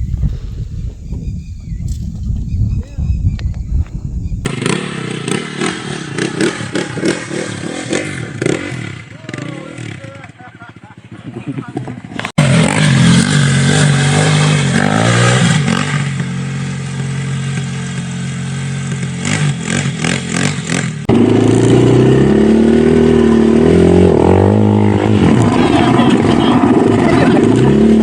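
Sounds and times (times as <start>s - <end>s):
dirt bike engine revving: 2.7s - 28.0s.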